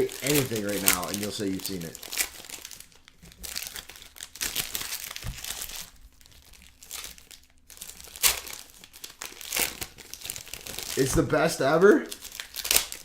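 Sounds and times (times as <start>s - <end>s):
card pack wrappers crinkling: 0.0s - 13.0s.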